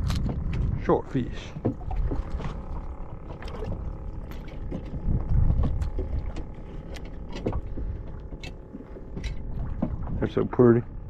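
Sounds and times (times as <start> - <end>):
faint motor hum: 0.0 - 11.0
water rumbling against hull: 0.0 - 11.0.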